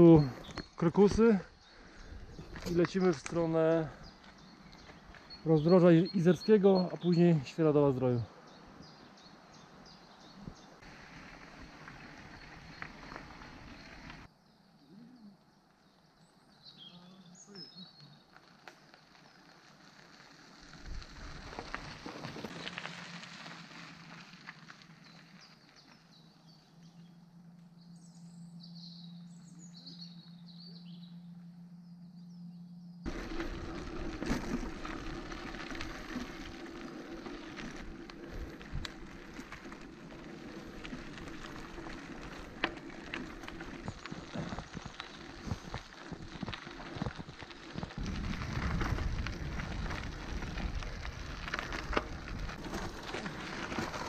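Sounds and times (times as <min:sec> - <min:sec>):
bike tyres crunching on gravel: 0:00.0 - 0:14.4, 0:15.6 - 0:31.0, 0:33.0 - 0:54.0
birds chirping: 0:00.0 - 0:19.8, 0:24.6 - 0:51.5.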